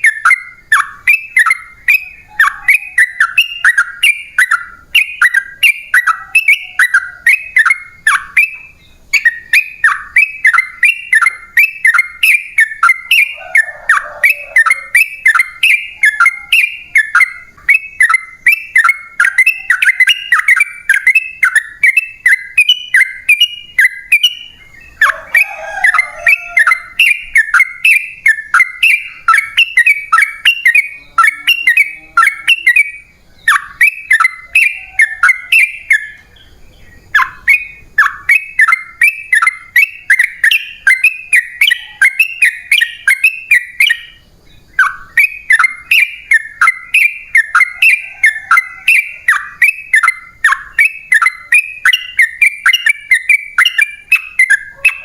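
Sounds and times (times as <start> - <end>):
bulbul singing rapid chirps: 0.0 - 55.0.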